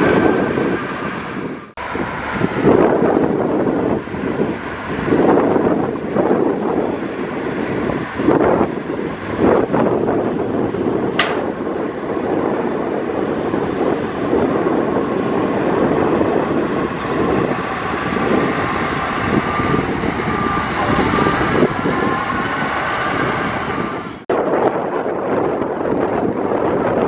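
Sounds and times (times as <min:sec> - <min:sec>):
diesel engine running: 0:00.0 - 0:24.3.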